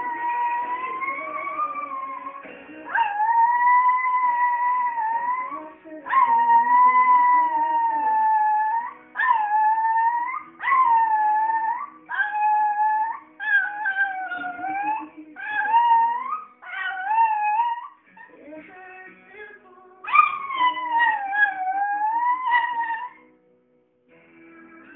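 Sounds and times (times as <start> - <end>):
small dog howling: 0.0 - 18.3, 20.1 - 23.2
music: 0.0 - 24.9.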